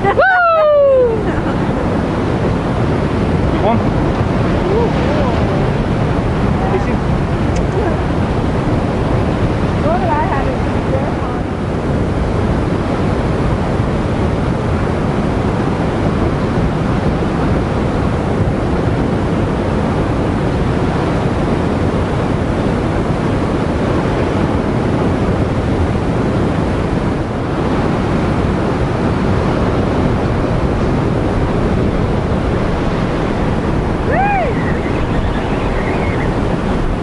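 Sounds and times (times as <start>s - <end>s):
surf breaking on rocky shore: 0.0s - 37.0s
wind buffeting microphone: 0.0s - 37.0s.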